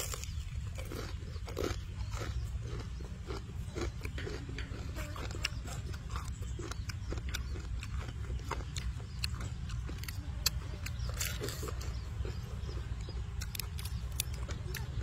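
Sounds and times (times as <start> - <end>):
chewing and crunching fried chicken: 0.0 - 15.0.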